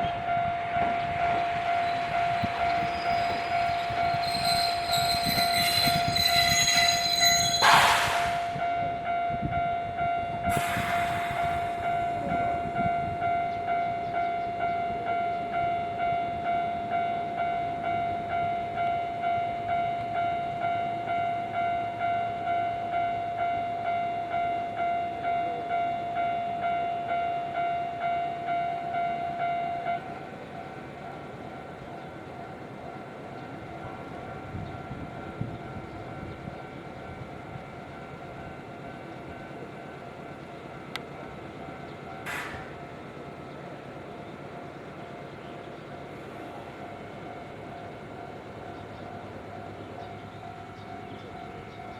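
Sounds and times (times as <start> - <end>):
level crossing warning bell: 0.0 - 51.9.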